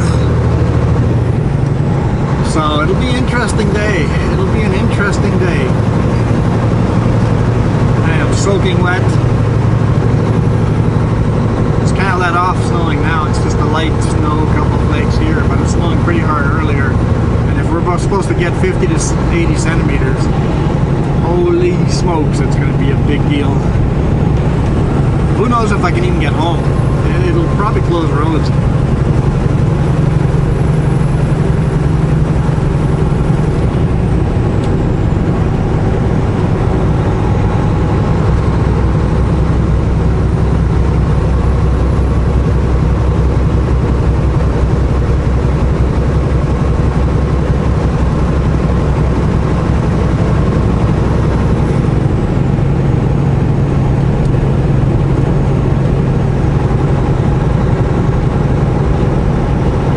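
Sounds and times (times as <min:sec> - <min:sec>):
road noise: 0:00.0 - 0:59.9
truck diesel engine running: 0:00.0 - 0:59.9.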